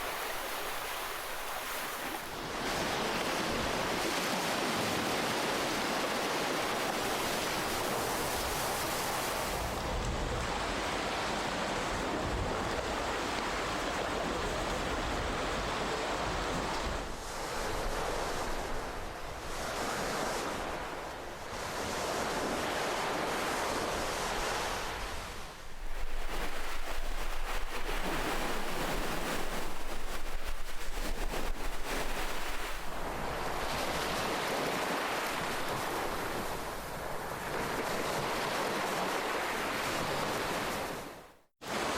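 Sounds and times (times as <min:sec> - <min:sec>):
ocean waves breaking on shore: 0:00.0 - 0:41.9.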